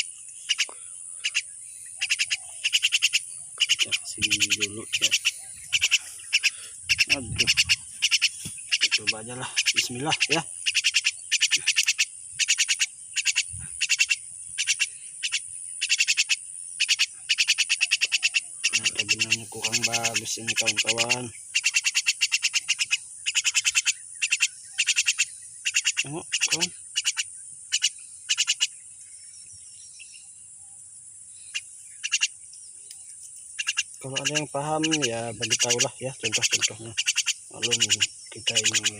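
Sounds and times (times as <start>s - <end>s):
high-pitched insect drone: 0.0s - 28.8s, 33.1s - 38.9s
frogs calling in rapid pulses: 0.0s - 29.0s, 31.3s - 32.5s, 33.2s - 38.9s.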